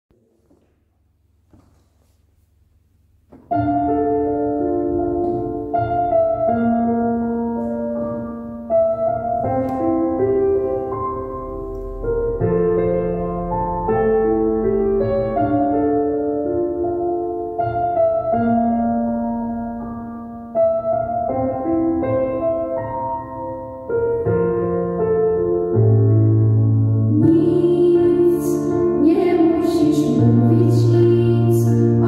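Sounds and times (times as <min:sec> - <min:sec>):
piano playing slow chords: 0:02.7 - 0:32.0.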